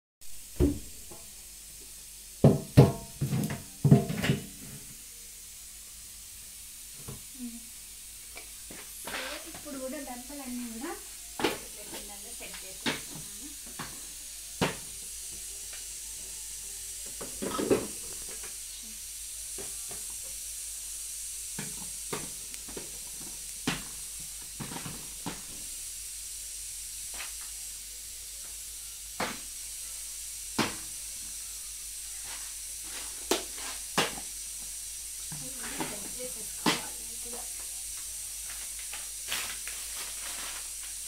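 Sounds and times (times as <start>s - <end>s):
steady hiss: 0.2s - 41.0s.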